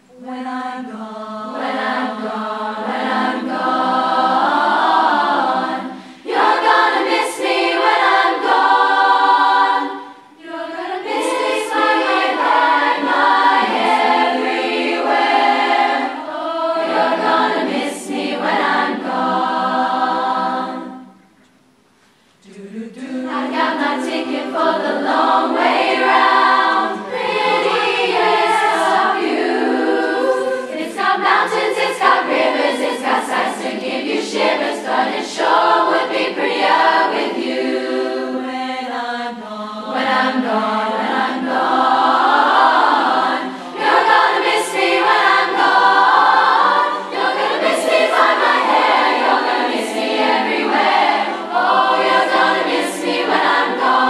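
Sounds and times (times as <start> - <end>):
choir singing a cappella: 0.0 - 21.4, 22.4 - 54.0.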